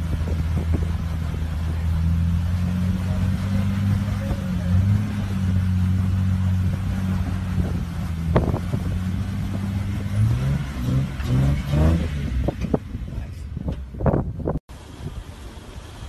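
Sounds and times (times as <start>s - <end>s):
engine labouring and revving: 0.0s - 16.0s.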